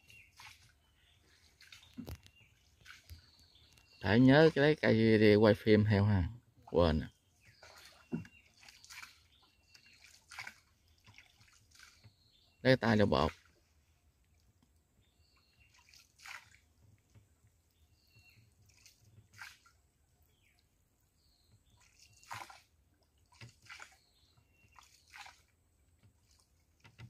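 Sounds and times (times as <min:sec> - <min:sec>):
water splashes and drips: 0:00.0 - 0:27.0.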